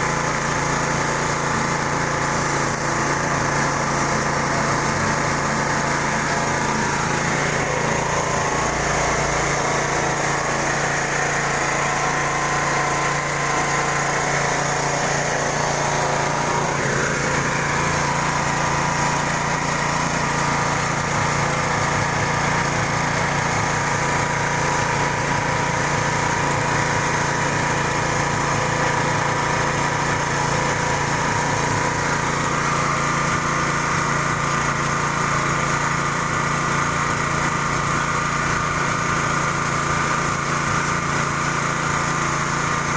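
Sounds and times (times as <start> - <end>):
pellet mill mechanical drone: 0.0 - 42.9.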